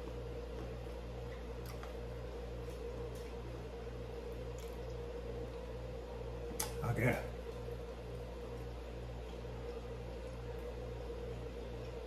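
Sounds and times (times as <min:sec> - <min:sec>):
pulsing appliance hum: 0:00.0 - 0:12.0.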